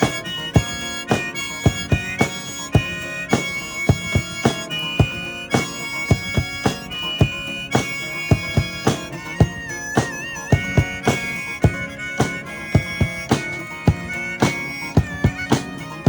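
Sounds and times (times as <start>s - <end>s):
harmonica playing held notes: 0.0s - 16.0s
steady drum beat: 0.0s - 16.0s.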